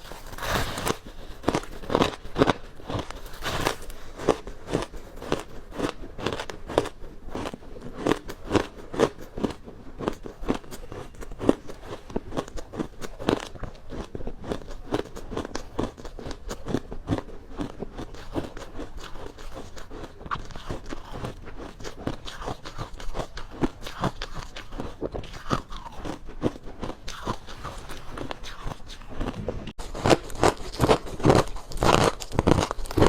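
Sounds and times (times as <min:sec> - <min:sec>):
ice crunching between teeth: 0:00.0 - 0:33.0.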